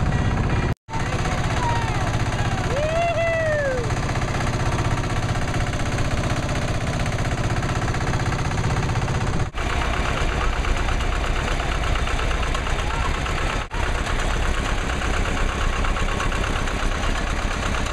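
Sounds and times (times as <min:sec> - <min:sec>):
tractor engines passing: 0:00.0 - 0:17.9.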